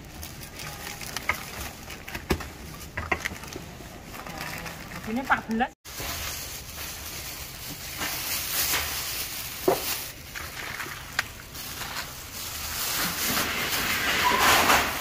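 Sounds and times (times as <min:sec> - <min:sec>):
food rustling and scraping: 0:00.0 - 0:15.0.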